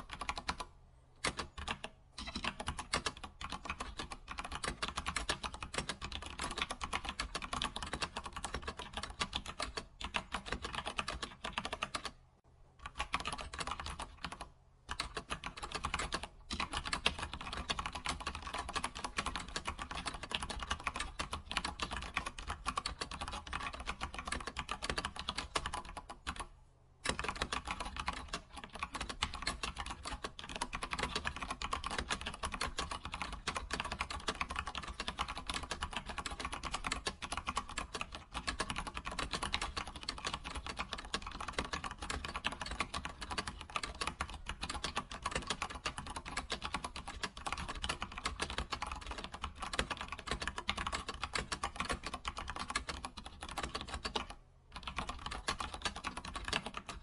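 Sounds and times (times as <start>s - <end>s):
computer keyboard typing: 0.0s - 12.2s, 12.8s - 57.0s.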